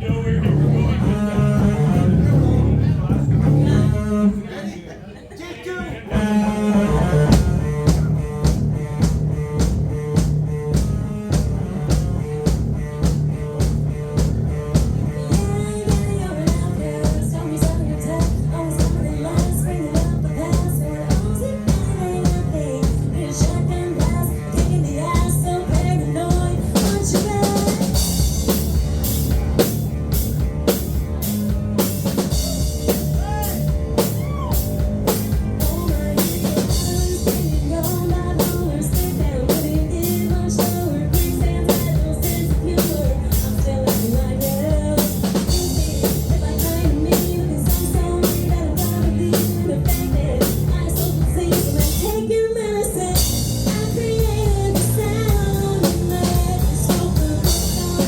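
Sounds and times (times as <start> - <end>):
drum kit beat: 0.0 - 4.2, 6.1 - 58.0.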